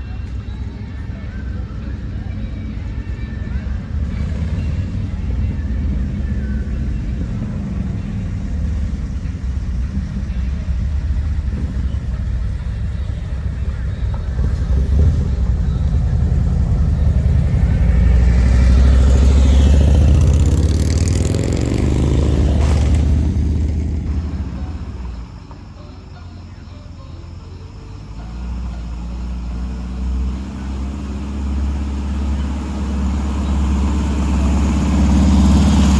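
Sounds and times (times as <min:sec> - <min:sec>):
car engine rumbling past: 0:00.0 - 0:35.9.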